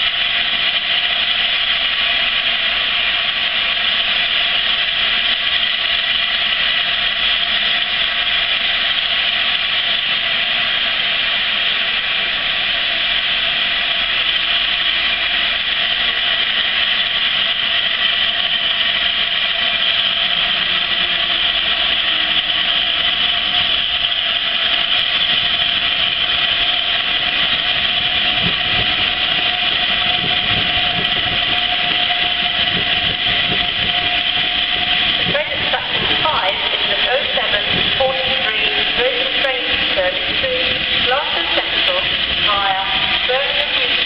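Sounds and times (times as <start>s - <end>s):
steam hissing from safety valves: 0.0s - 44.0s.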